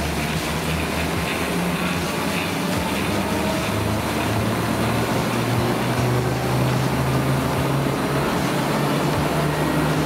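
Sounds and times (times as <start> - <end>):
low motor hum: 0.0 - 10.0
treadmill belt whirring: 0.0 - 10.0.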